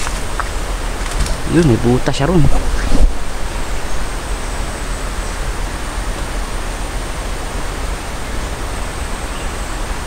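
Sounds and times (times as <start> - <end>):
steady rushing hiss: 0.0 - 10.0.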